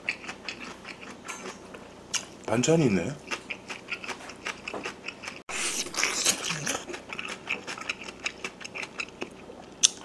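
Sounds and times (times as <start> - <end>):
chewing and lip-smacking: 0.0 - 2.3, 3.2 - 10.0.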